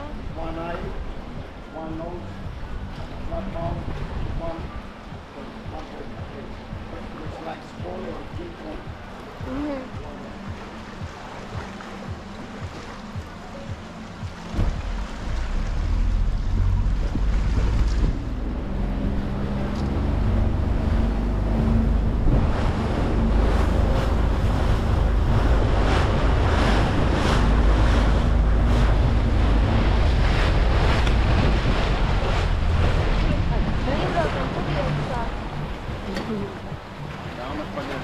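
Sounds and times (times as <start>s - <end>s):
boat engine drone: 0.0s - 38.0s
water splashing against hull: 0.0s - 38.0s
wind buffeting microphone: 0.0s - 38.0s.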